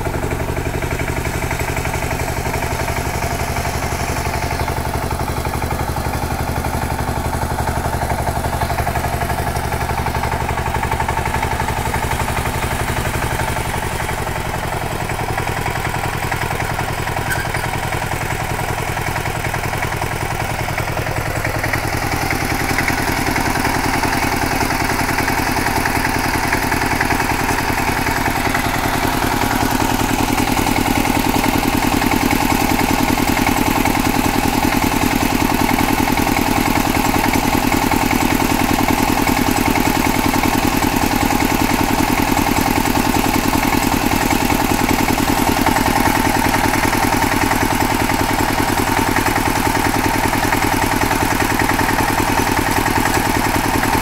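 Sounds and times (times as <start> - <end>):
diesel engine thudding: 0.0 - 36.2, 37.1 - 54.0.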